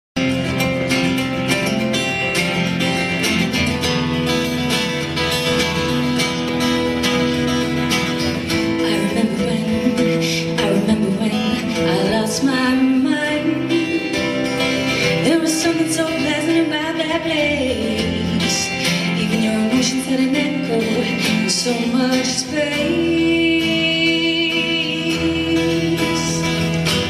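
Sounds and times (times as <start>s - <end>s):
two acoustic guitars playing: 0.2s - 27.0s.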